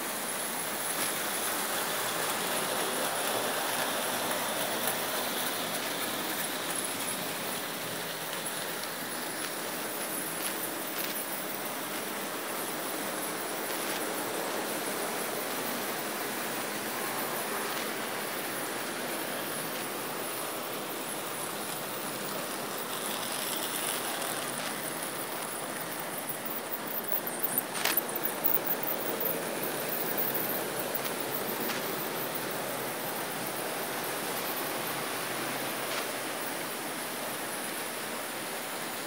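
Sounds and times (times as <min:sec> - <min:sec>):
model train wheels rattling: 0:00.1 - 0:37.1.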